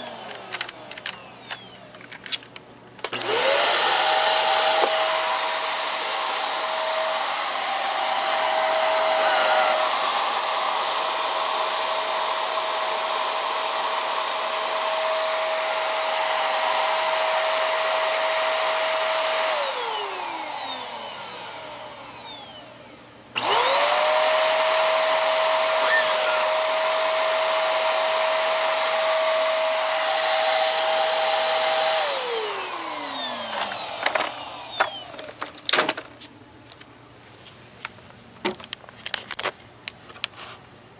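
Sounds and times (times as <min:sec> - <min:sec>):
vacuum cleaner motor whine: 0:00.0 - 0:02.0, 0:03.0 - 0:35.6.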